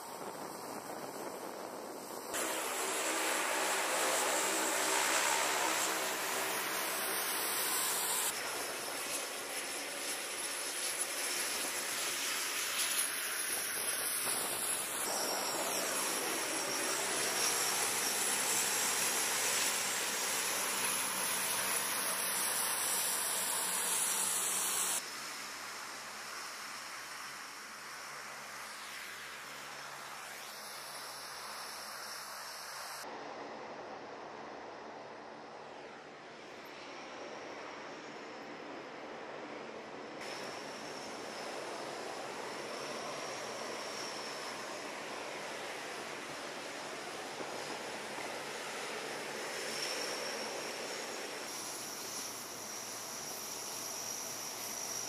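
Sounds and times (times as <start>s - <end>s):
turboprop aircraft engines droning: 0.0s - 55.0s.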